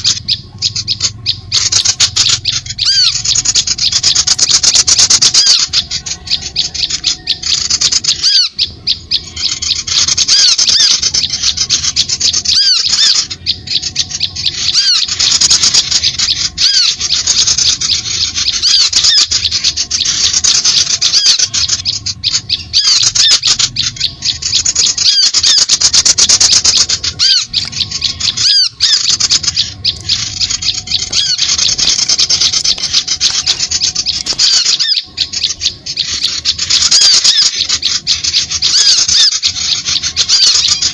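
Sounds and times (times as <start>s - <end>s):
small birds chirping rapidly: 0.0s - 40.9s.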